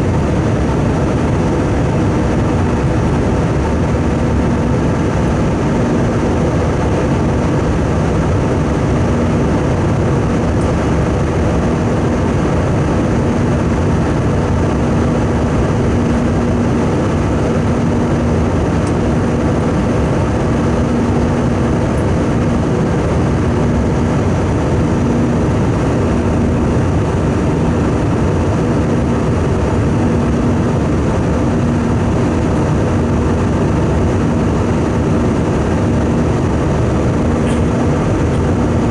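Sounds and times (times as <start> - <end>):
airliner cabin engine noise: 0.0 - 38.9
pulsing low hum: 0.0 - 38.9.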